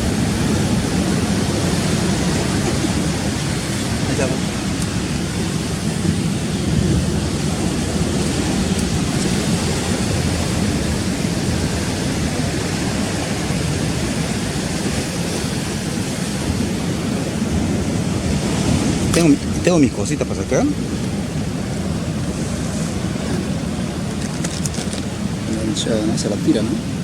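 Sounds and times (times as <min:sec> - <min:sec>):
rough sea surf: 0:00.0 - 0:27.0
wind: 0:00.0 - 0:27.0.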